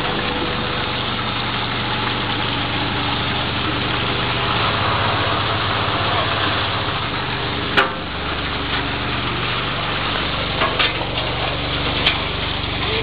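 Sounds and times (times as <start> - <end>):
gravel and water churning: 0.0 - 13.0
low motor hum: 0.0 - 13.0.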